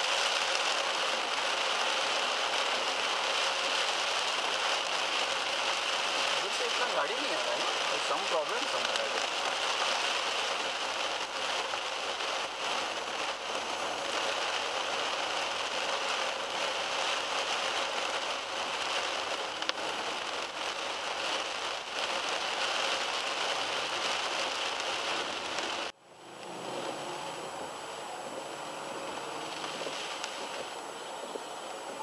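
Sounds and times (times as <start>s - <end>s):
heavy rain on car roof: 0.0s - 32.0s.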